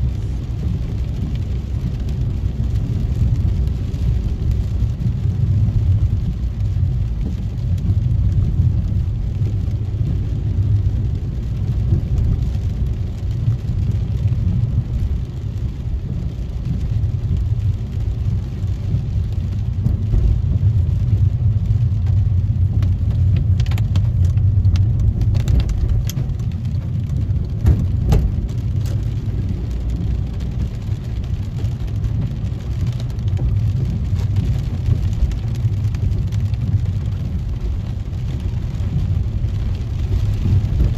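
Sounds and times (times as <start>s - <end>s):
car engine and tyres rumbling: 0.0s - 40.9s
rain: 0.0s - 40.9s.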